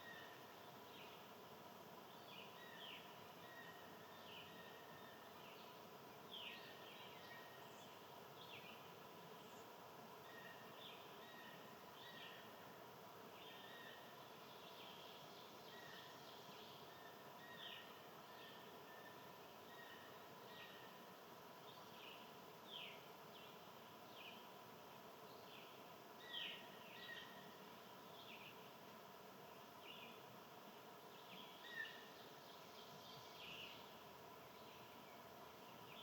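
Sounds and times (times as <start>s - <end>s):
outdoor background hiss: 0.0s - 36.0s
songbirds chirping: 0.0s - 36.0s.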